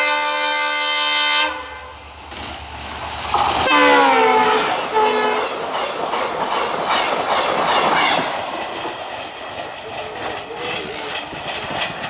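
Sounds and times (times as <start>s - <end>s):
train coaches rushing past: 1.9s - 12.0s
wheels clicking over rail joints: 2.3s - 12.0s.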